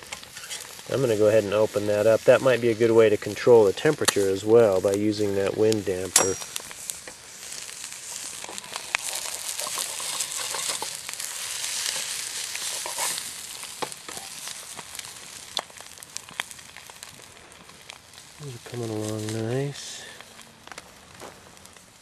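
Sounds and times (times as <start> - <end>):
eggs sizzling in a skillet: 0.0 - 22.0.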